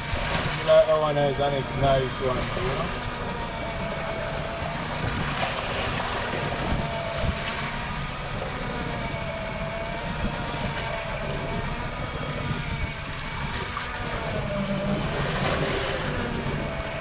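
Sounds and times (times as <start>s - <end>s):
faint motor whine: 0.0s - 17.0s
sea noise: 0.0s - 17.0s
wind on microphone: 0.0s - 17.0s.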